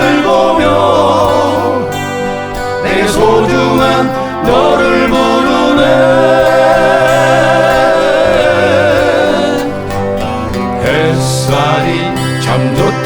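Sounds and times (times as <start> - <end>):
male vocal group singing: 0.0 - 13.0
strummed acoustic guitars: 0.0 - 13.0.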